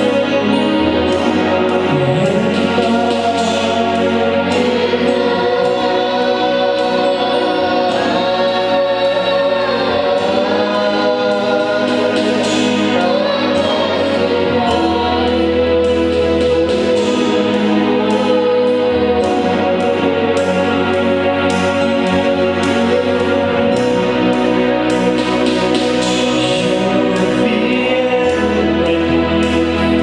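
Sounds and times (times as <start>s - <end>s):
choir singing: 0.0s - 30.0s
held bass notes: 0.0s - 30.0s
instrumental accompaniment: 0.0s - 30.0s.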